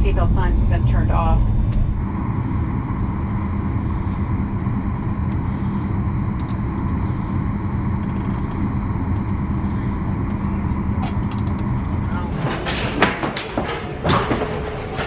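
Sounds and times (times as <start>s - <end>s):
aircraft cabin rumble: 0.0s - 15.0s
cabin air system hum: 0.0s - 15.0s
jet engines idling: 0.0s - 15.0s.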